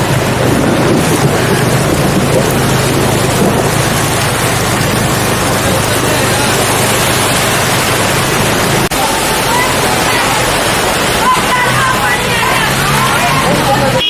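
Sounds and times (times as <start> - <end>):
low engine hum: 0.0 - 14.0
rush of water: 0.0 - 14.0.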